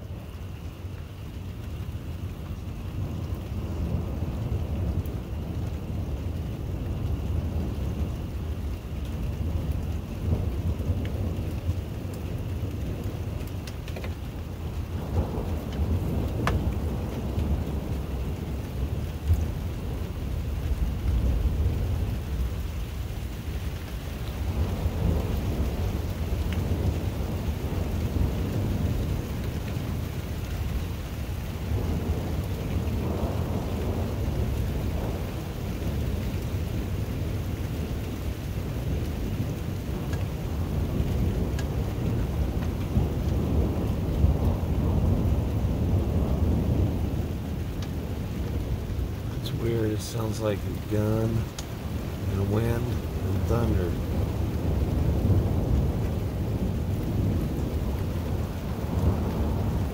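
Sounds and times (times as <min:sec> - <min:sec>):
rain: 0:00.0 - 0:59.9
thunder rumbling: 0:00.0 - 0:59.9
wind: 0:00.0 - 0:59.9.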